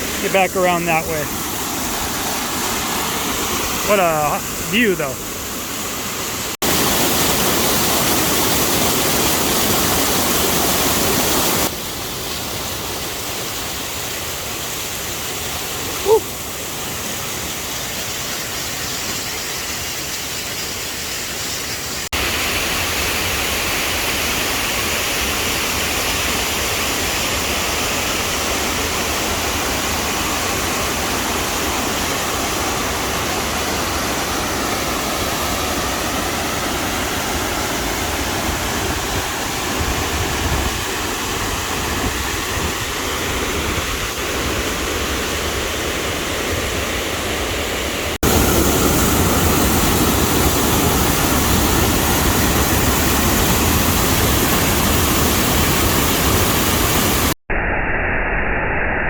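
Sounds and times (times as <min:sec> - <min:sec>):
rushing creek water: 0:00.0 - 0:57.4.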